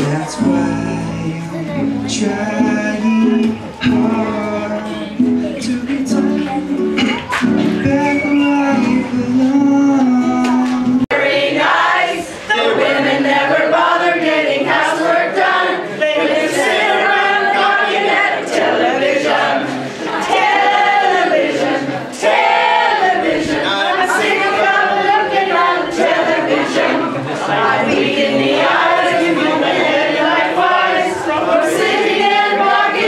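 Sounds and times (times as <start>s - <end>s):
group singing unaccompanied: 0.0s - 33.0s.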